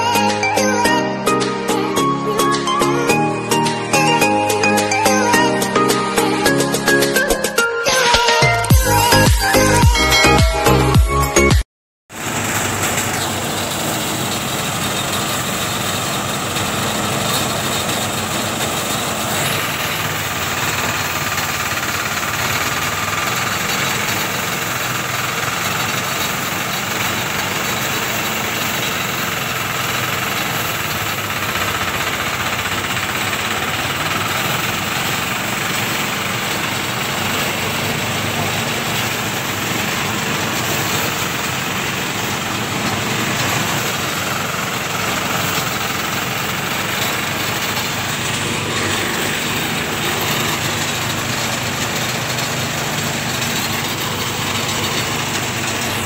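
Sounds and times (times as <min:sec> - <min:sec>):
rice thresher running: 0:00.0 - 0:11.5, 0:12.1 - 0:56.0.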